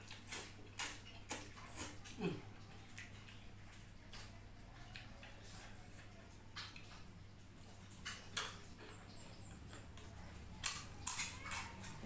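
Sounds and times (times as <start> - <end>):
chewing and mouth smacks: 0.0 - 12.0.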